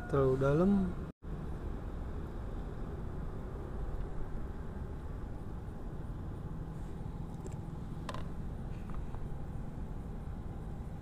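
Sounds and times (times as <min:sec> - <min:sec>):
low rushing background noise: 0:00.4 - 0:11.0.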